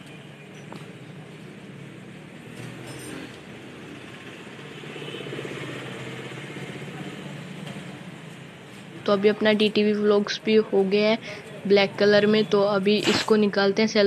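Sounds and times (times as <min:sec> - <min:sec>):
traffic engine hum: 0:00.0 - 0:14.0.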